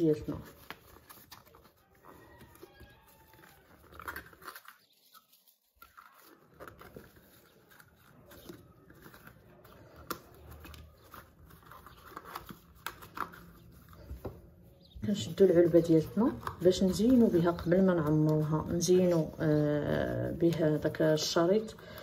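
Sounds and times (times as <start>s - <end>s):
cardstock rustling and crinkling: 0.0s - 22.0s.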